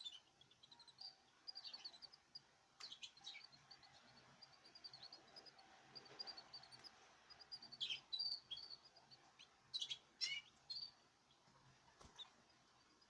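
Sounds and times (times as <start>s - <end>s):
small cage birds chirping: 0.0s - 13.0s.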